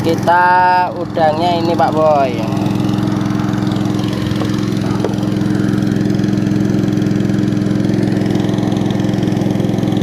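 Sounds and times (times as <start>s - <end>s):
small boat engine running: 0.0s - 10.0s.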